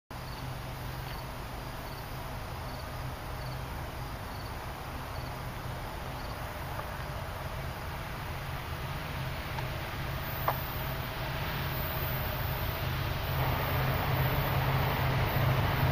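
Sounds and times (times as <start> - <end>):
steady low hum: 0.1 - 15.9
cricket chirping: 0.2 - 8.1, 9.6 - 15.9.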